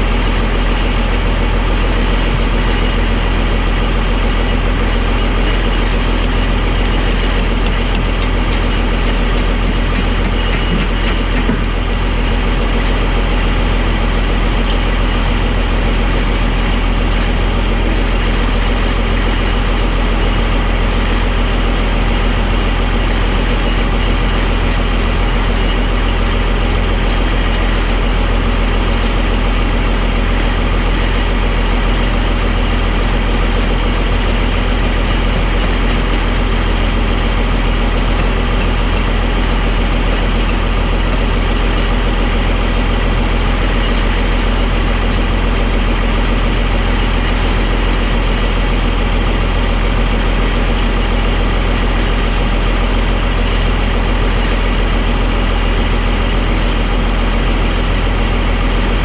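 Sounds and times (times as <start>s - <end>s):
bulldozer diesel engine idling: 0.0s - 59.0s.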